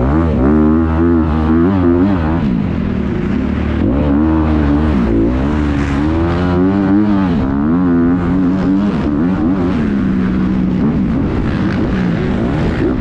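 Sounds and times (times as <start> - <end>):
motocross engine revving: 0.0 - 13.0.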